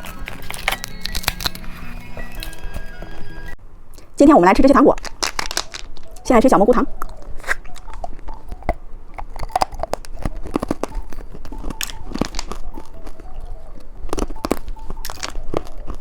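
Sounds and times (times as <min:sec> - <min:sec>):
crunching and chewing candy: 0:00.0 - 0:03.2, 0:05.0 - 0:06.3, 0:06.9 - 0:16.0.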